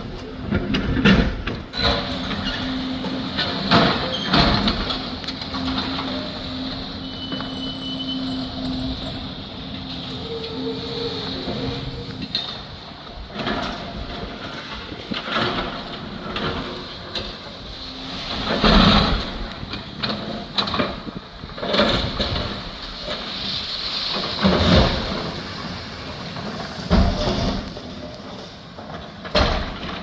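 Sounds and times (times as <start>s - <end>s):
steady noisy background: 0.0s - 30.0s.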